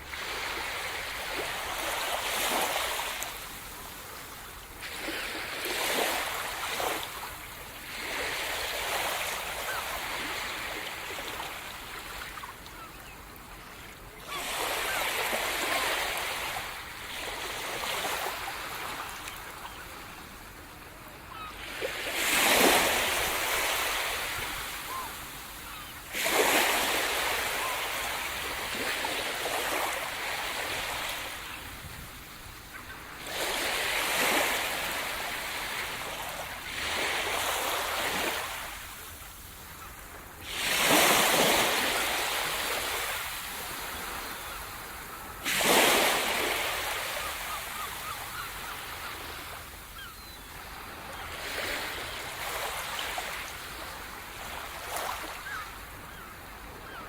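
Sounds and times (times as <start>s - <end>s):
sea waves crashing on shore: 0.0s - 12.9s, 14.2s - 57.0s.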